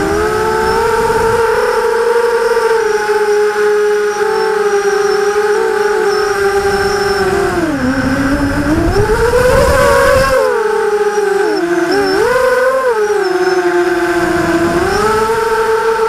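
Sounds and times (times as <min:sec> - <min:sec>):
quadcopter motors whining: 0:00.0 - 0:16.0
rumbling wind noise: 0:00.0 - 0:16.0.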